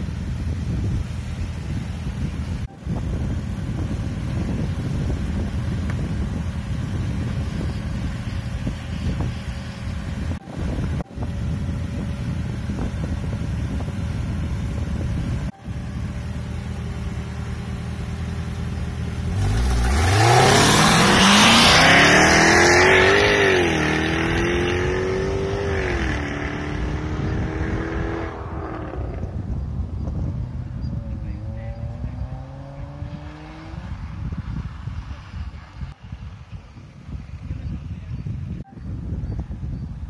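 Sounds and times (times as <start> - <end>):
sports car engine accelerating: 0.1 - 36.0.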